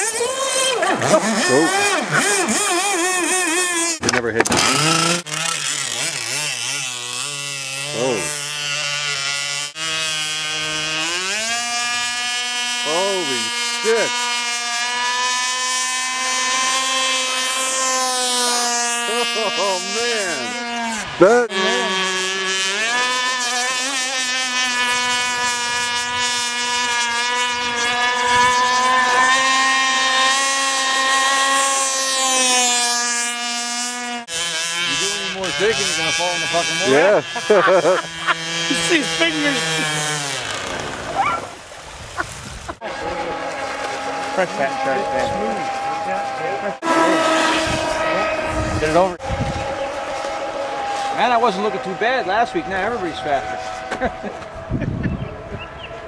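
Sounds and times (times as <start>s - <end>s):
electric boat motor whining: 0.0s - 56.0s.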